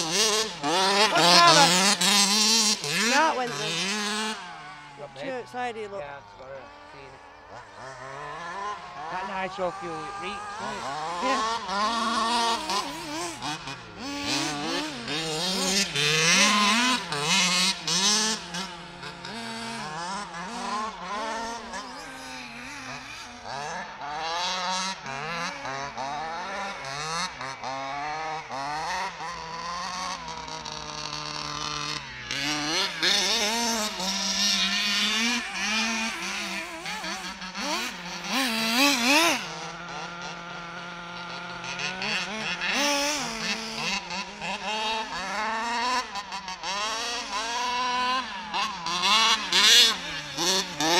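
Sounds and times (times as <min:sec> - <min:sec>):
two-stroke engine revving: 0:00.0 - 0:50.9.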